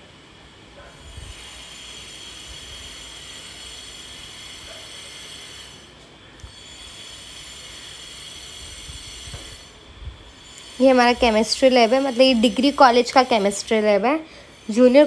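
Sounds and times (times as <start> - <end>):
background hiss and hum: 0.0 - 15.0.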